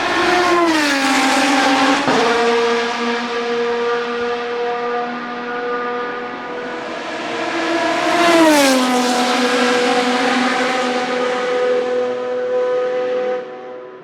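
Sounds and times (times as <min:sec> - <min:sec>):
race car engine passing by: 0:00.0 - 0:14.0.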